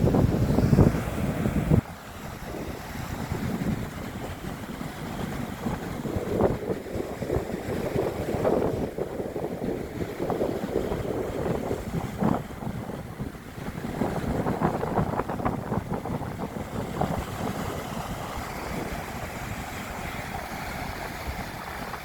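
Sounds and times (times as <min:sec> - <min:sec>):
water noise: 0:00.0 - 0:22.0
wind buffeting microphone: 0:00.0 - 0:22.0.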